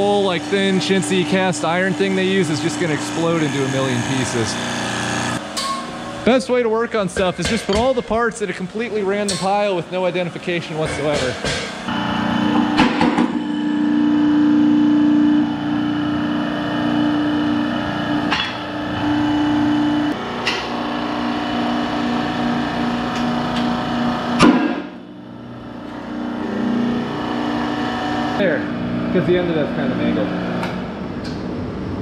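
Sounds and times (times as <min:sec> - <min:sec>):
hydraulic press humming: 0:00.0 - 0:31.8.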